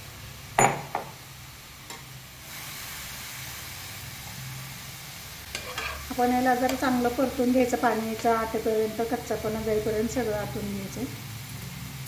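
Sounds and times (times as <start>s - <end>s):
radish sizzling in a frying pan: 0.0s - 12.0s.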